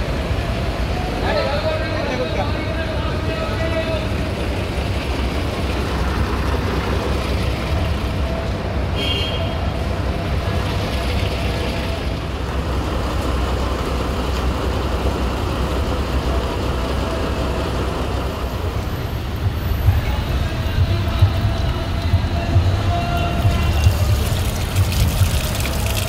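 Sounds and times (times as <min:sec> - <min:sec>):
bus engines rumbling: 0:00.0 - 0:26.0
road traffic: 0:00.0 - 0:26.0.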